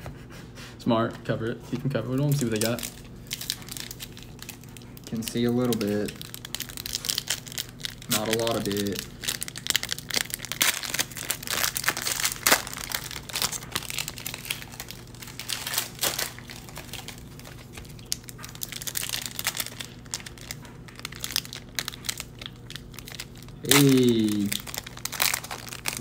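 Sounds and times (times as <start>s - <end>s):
steady low hum: 0.0s - 26.0s
foil wrappers crinkling: 1.7s - 26.0s.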